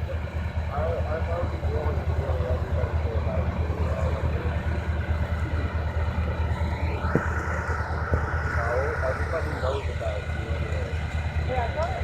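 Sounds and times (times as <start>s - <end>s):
diesel locomotive engine rumble: 0.0s - 12.0s
faint voices: 0.0s - 12.0s.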